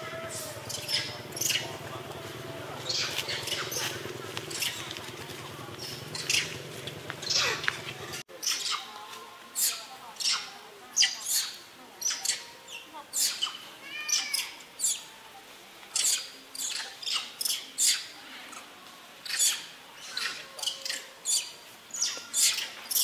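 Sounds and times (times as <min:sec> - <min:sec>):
macaques shrieking: 0:00.0 - 0:05.2, 0:05.8 - 0:08.9, 0:09.6 - 0:15.0, 0:15.9 - 0:23.0.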